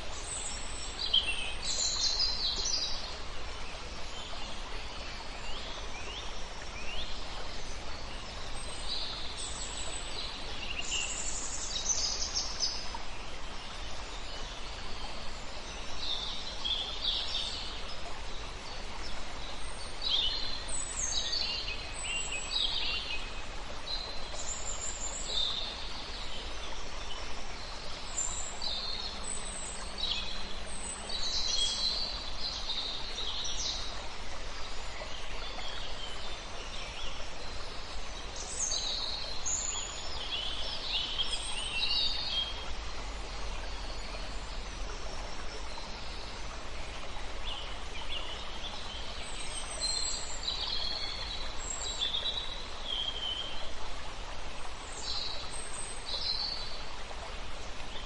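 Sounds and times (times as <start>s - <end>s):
songbirds singing: 0.0s - 53.8s
river flowing: 0.0s - 58.0s.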